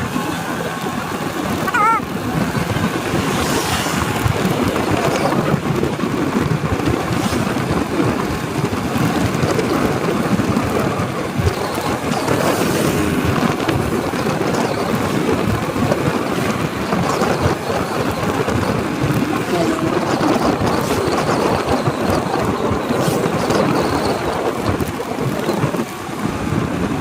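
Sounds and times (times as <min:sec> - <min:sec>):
motorcycle engine running: 0:00.0 - 0:27.0
road noise: 0:00.0 - 0:27.0
wind buffeting microphone: 0:00.0 - 0:27.0.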